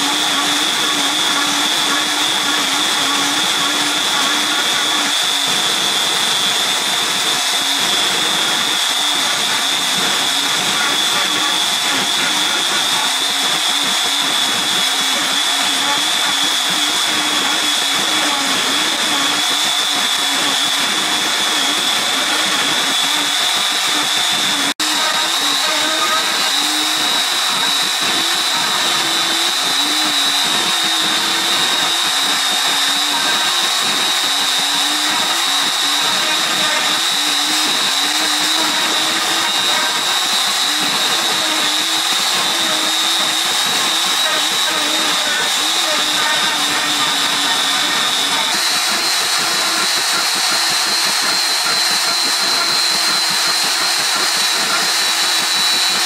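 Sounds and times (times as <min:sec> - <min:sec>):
router whining while carving wood: 0:00.0 - 0:56.0.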